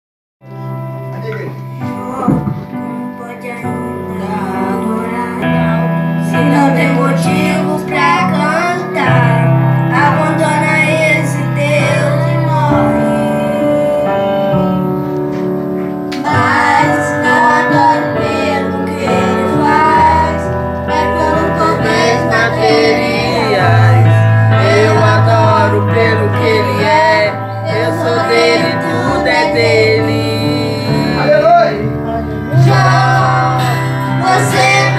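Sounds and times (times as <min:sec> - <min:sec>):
sustained instrumental chords: 0:00.5 - 0:34.9
boy and girl singing a hymn: 0:02.0 - 0:14.6, 0:16.2 - 0:31.6, 0:32.4 - 0:34.9
bass line: 0:03.8 - 0:34.9.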